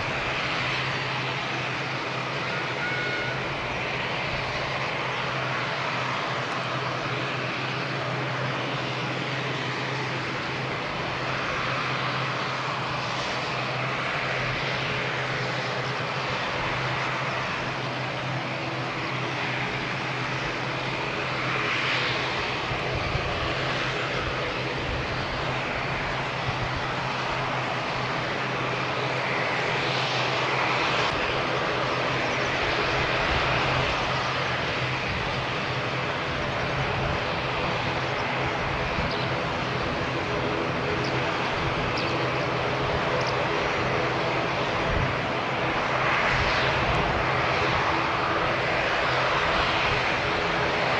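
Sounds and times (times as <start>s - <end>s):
turboprop engines running: 0.0s - 50.9s.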